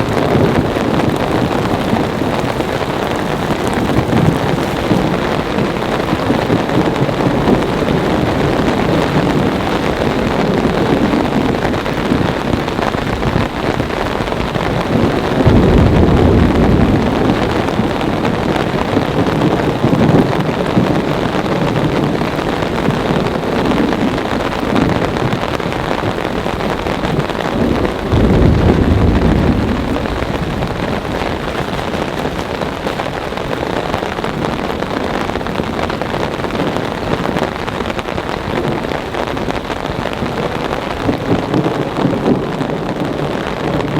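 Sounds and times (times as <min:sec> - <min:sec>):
heavy rain pouring: 0:00.0 - 0:43.9
thunder rumbling: 0:00.0 - 0:43.9.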